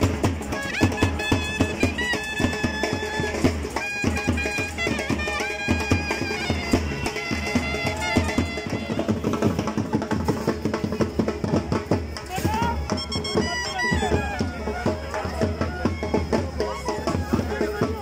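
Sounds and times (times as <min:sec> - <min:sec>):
reed pipe melody: 0:00.0 - 0:10.2, 0:12.2 - 0:18.0
quick regular drumbeat: 0:00.0 - 0:18.0.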